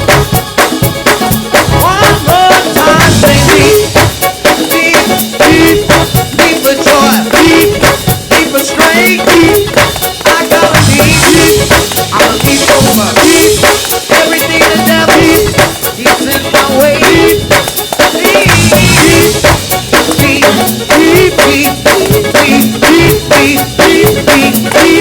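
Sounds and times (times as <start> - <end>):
drum kit beat: 0.0 - 25.0
gospel band playing: 0.0 - 25.0.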